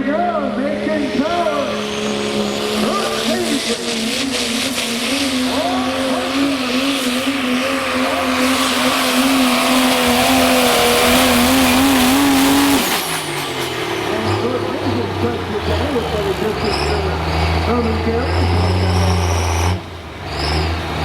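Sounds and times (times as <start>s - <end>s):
diesel truck engine revving: 0.0s - 21.0s.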